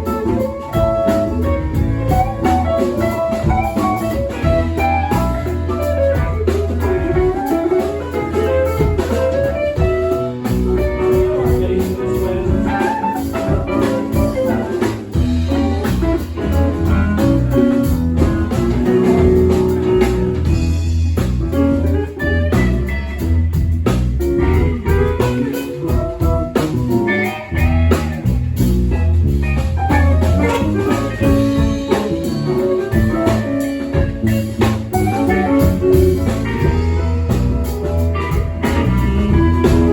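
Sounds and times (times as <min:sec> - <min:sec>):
bass line: 0:00.0 - 0:39.9
drums keeping the beat: 0:00.0 - 0:39.9
guitar: 0:00.0 - 0:39.9.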